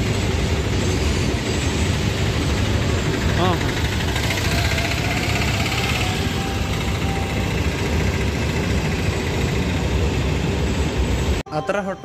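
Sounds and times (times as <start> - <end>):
auto-rickshaw engine rumbling: 0.0 - 11.4.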